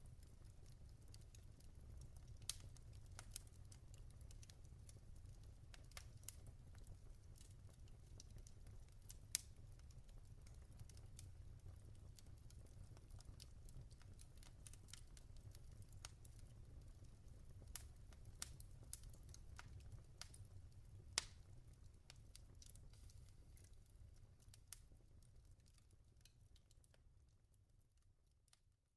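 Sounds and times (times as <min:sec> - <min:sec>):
low rumble of flames: 0:00.0 - 0:27.7
burning logs crackling and popping: 0:00.0 - 0:28.0.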